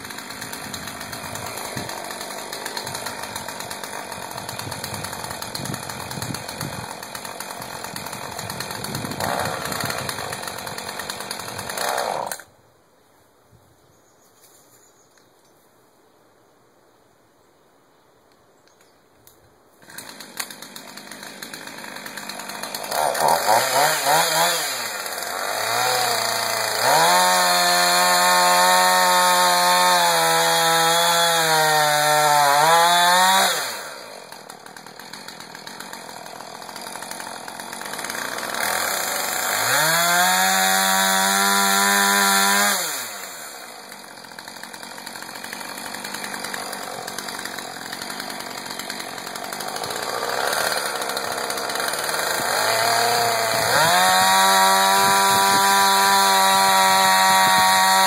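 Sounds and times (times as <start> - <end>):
chainsaw starting and revving: 0.0 - 12.5, 19.8 - 58.0.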